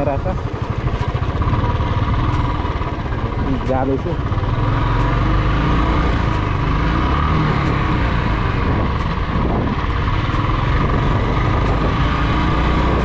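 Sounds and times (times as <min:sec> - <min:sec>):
heavy wind: 0:00.0 - 0:13.0
motorcycle engine running: 0:00.0 - 0:13.0
road noise: 0:00.0 - 0:13.0.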